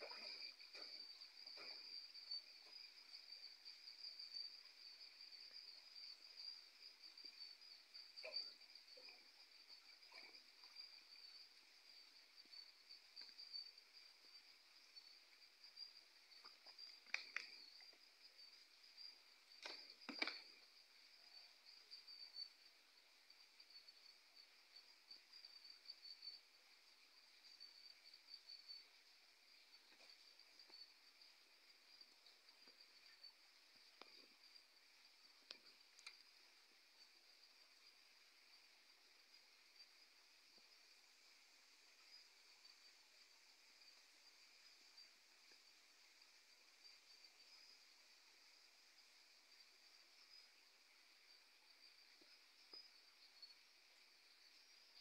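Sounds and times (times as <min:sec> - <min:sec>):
faint insects droning: 0:00.0 - 0:55.0.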